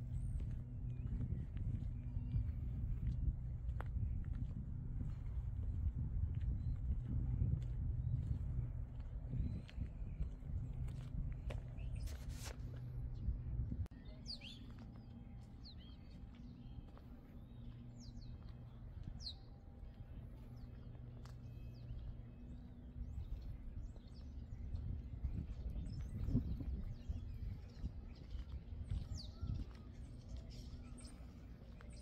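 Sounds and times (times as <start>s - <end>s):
small birds tweeting: 0.0s - 32.0s
steady low hum: 0.0s - 32.0s.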